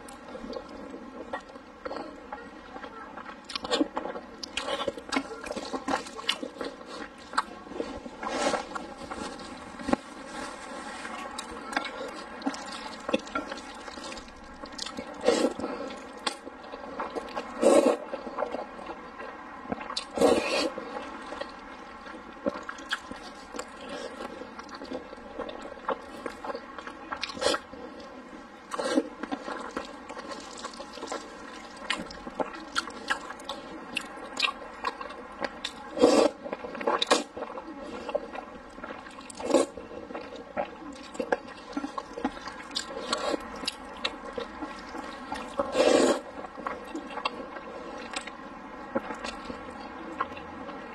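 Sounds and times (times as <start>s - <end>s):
wet chewing: 0.0s - 50.9s.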